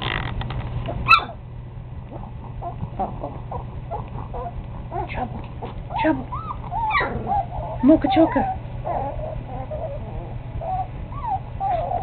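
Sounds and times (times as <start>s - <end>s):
puppies whimpering and squeaking: 0.9s - 1.4s, 2.1s - 12.0s
puppy yelp: 0.9s - 1.4s, 2.1s - 5.2s, 5.9s - 12.0s.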